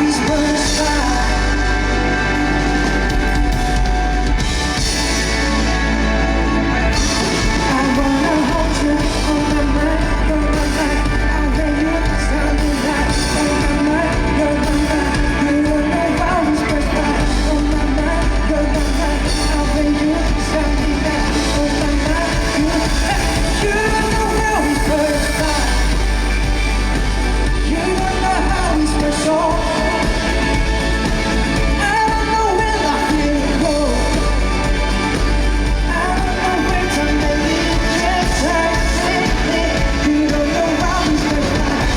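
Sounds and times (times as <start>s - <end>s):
lead vocal singing: 0.0s - 41.9s
live rock band playing: 0.0s - 41.9s.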